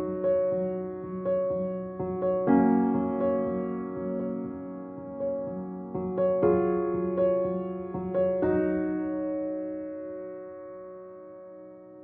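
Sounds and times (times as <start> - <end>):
soft piano notes: 0.0 - 12.0.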